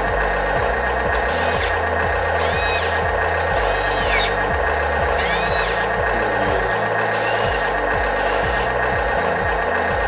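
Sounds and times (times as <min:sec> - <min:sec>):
background music: 0:00.0 - 0:10.0
electric motors whining: 0:00.0 - 0:10.0.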